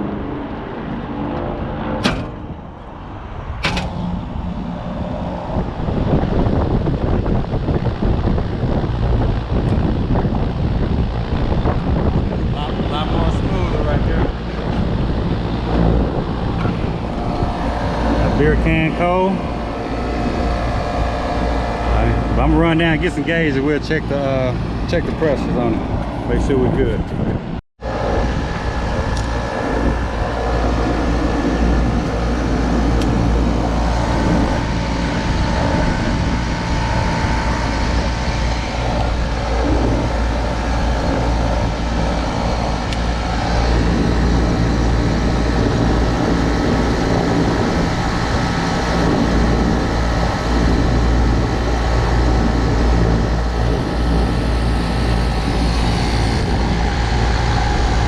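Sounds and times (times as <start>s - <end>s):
air conditioning unit humming: 0.0s - 58.0s.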